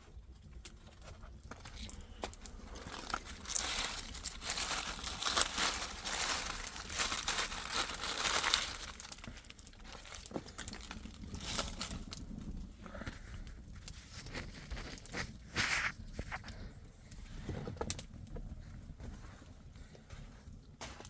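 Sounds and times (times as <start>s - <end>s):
crinkling and rustling: 0.0s - 21.0s.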